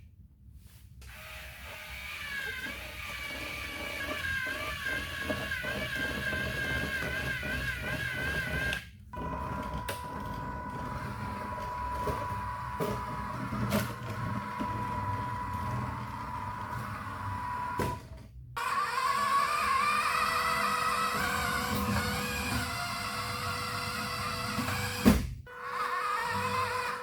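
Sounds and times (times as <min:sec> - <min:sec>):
toy car electric motor whine: 0:01.1 - 0:18.0, 0:18.6 - 0:27.0.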